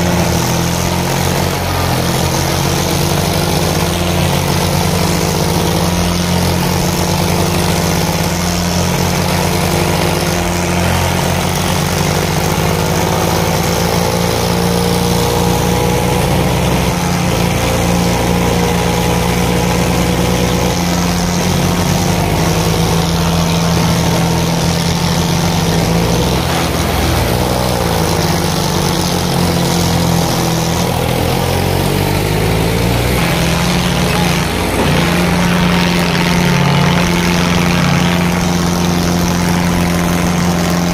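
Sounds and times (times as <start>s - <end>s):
diesel tractor engines running: 0.0s - 40.9s.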